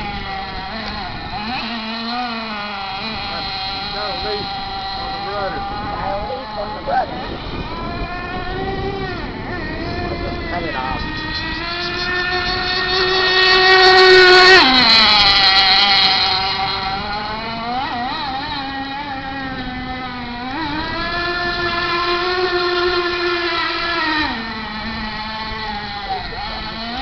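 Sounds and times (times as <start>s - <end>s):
rc boat engine whining: 0.0s - 27.0s.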